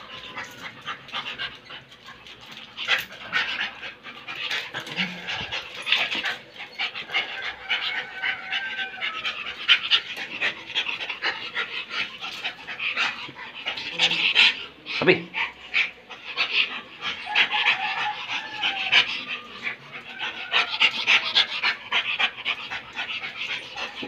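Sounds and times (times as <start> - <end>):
dog panting hard: 0.0 - 24.0.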